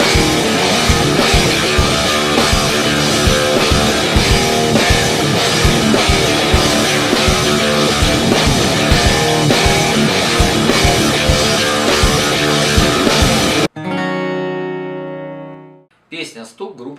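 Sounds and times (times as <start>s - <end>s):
rock music with drums and guitars: 0.0s - 15.3s.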